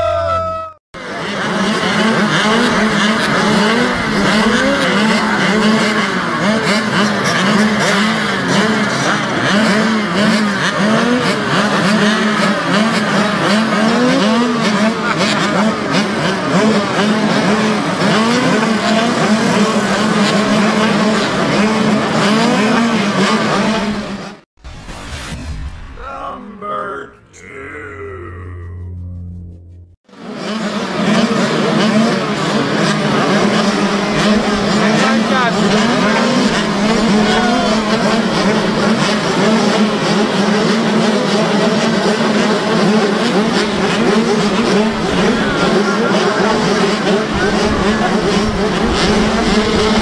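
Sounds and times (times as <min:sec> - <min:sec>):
motocross bikes revving at idle: 0:01.0 - 0:24.4, 0:30.1 - 0:50.0.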